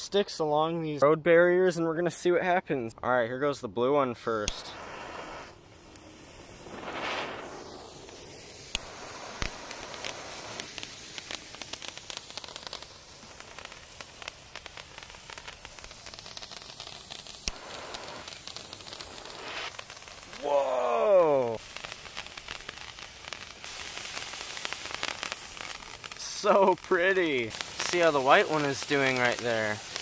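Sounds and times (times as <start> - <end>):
sparks crackling: 4.2 - 30.0
firework spraying hiss: 4.3 - 30.0.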